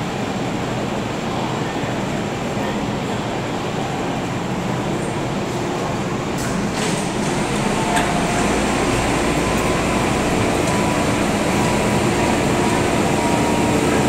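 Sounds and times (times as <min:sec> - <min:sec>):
electric train rumble and hiss: 0:00.0 - 0:14.0.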